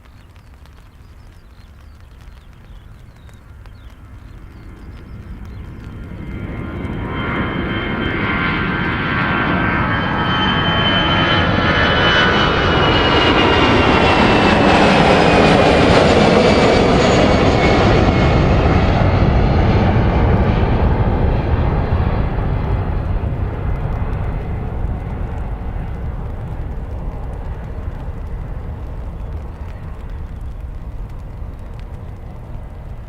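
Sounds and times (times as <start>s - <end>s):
airliner engines passing by: 0.0s - 33.0s.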